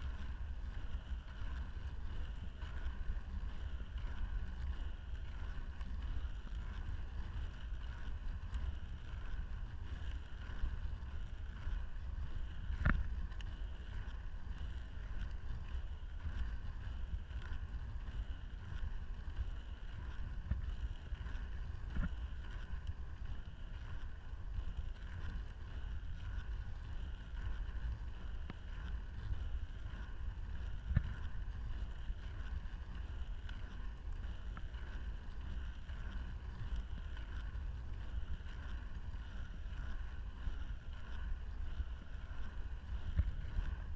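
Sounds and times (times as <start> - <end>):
skate wheels rolling on asphalt: 0.0 - 43.9
wind on microphone: 0.0 - 43.9.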